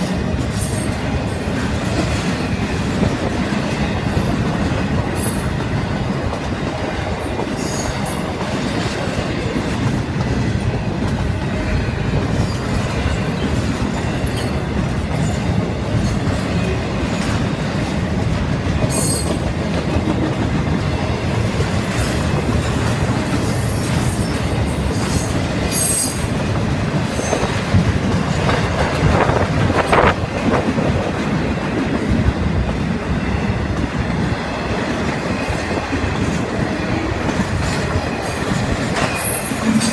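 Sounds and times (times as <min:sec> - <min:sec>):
clickety-clack over rail joints: 0:00.0 - 0:39.9
train wheels rumbling on rails: 0:00.0 - 0:39.9.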